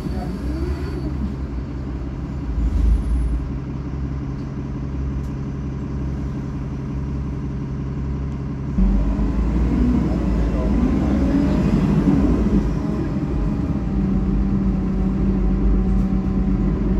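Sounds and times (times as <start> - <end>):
bus diesel engine humming: 0.0 - 16.9.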